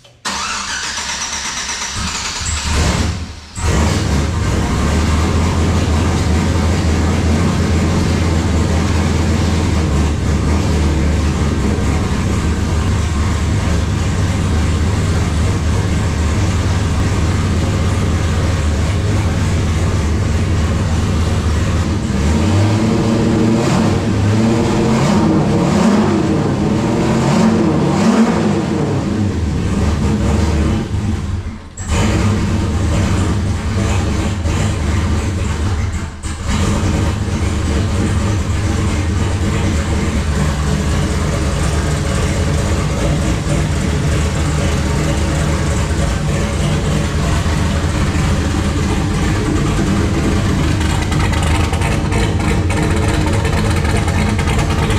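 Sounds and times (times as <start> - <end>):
race car engine idling and revving: 0.0 - 54.9.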